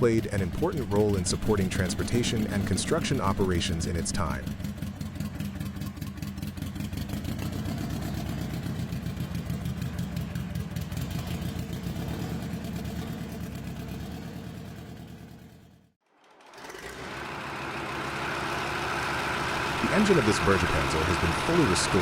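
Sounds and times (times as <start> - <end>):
diesel engine running: 0.0 - 22.0
different engine running: 0.0 - 22.0.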